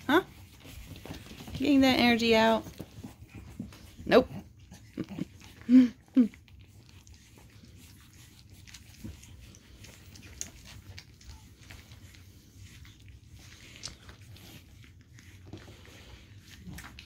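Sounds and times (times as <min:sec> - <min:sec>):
puppies scuffling and rustling: 0:00.0 - 0:17.0.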